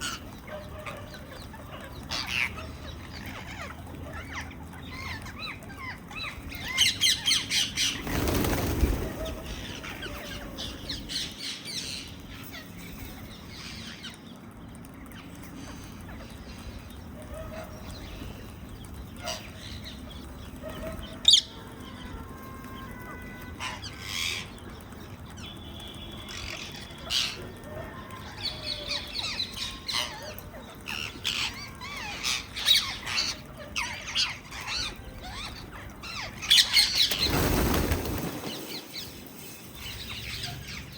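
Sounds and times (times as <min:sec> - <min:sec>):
parakeets squawking and chirping: 0:00.0 - 0:40.9.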